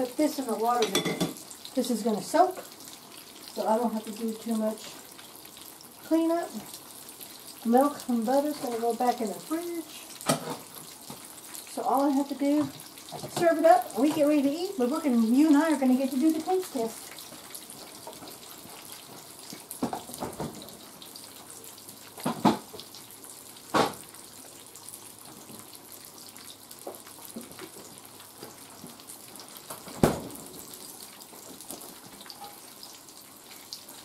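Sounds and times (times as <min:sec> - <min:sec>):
oil sizzling in skillet: 0:00.0 - 0:34.0.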